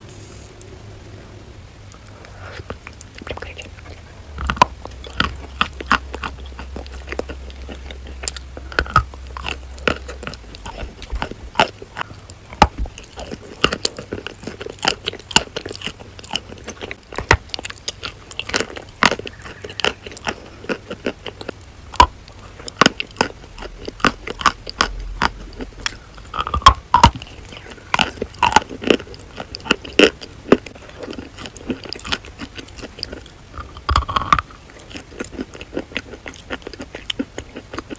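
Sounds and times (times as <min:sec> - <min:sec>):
soft creamy chewing: 0:01.9 - 0:37.9.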